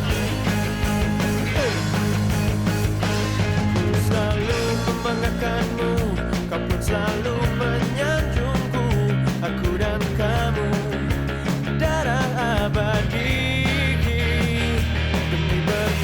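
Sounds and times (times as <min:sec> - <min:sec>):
rock music: 0:00.0 - 0:16.0
steady drum beat: 0:00.0 - 0:16.0.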